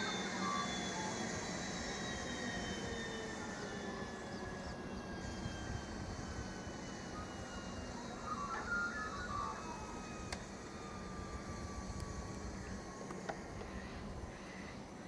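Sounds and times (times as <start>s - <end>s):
propeller rushing noise: 0.0s - 15.0s
turboprop engine whine: 0.0s - 15.0s.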